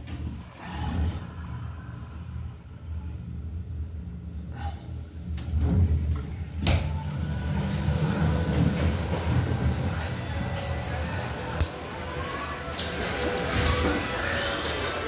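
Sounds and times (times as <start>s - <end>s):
elevator rumble and hum: 0.0s - 15.0s.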